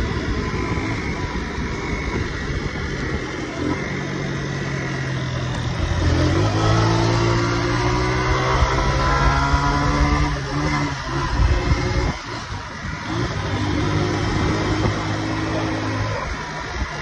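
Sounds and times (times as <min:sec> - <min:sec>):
wind on microphone: 0:00.0 - 0:04.1, 0:05.6 - 0:17.0
motorcycle engine running: 0:00.0 - 0:17.0.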